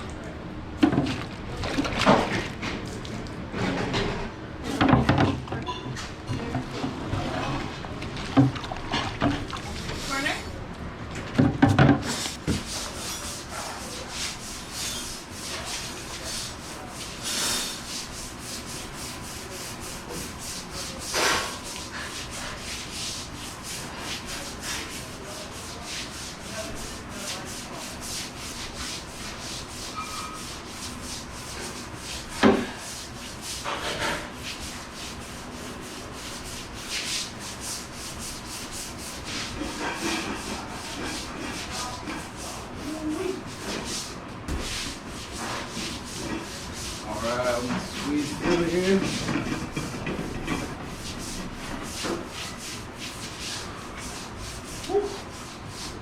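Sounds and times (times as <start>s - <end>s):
brush scrubbing wet floor: 0.8s - 3.4s, 6.6s - 10.5s, 12.0s - 56.0s.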